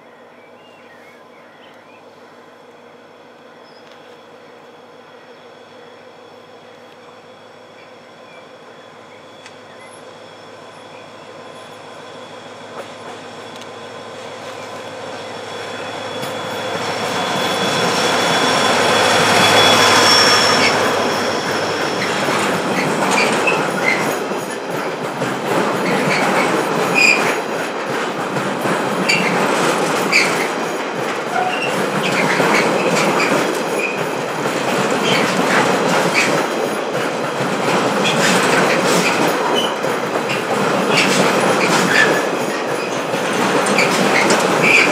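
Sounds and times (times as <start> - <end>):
diesel locomotive engine: 0.0 - 44.9
train wheel squeals: 0.1 - 44.9.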